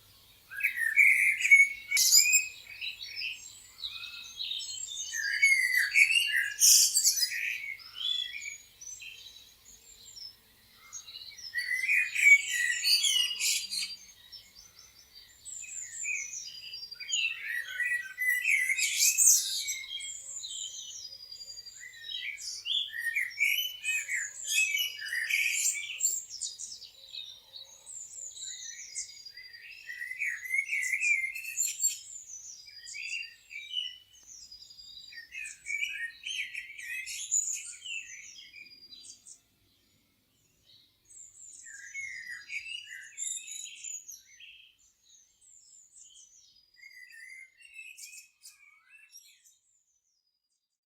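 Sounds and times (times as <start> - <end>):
songbirds chirping and singing: 0.0 - 50.7.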